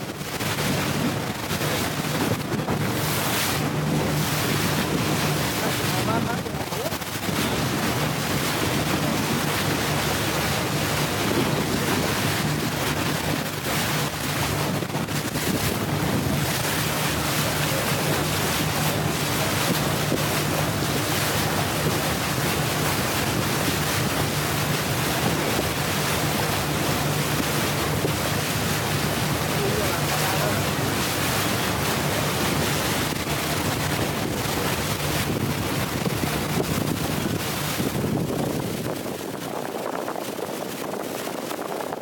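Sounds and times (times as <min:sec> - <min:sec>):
motorboat engine drone: 0:00.0 - 0:41.8
water rushing along hull: 0:00.0 - 0:42.0
wind buffeting microphone: 0:00.0 - 0:42.0.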